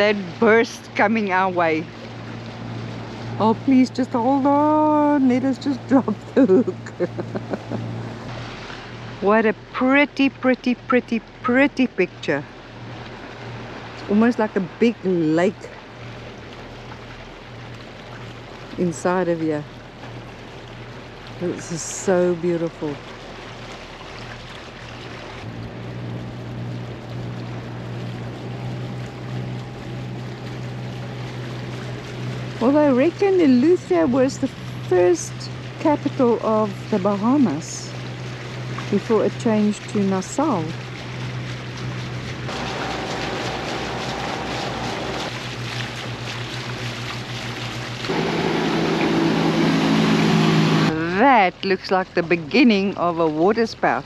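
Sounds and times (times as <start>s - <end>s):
boat diesel engine humming: 0.0s - 54.0s
wind and water hiss: 0.0s - 54.0s.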